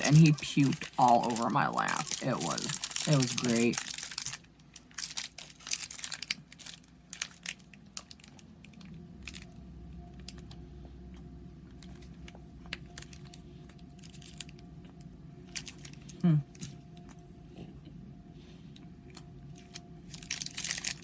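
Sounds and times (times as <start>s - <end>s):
plastic wrapper crinkling: 0.0s - 10.6s, 11.6s - 17.2s, 19.0s - 21.0s
steady low hum: 0.0s - 21.0s.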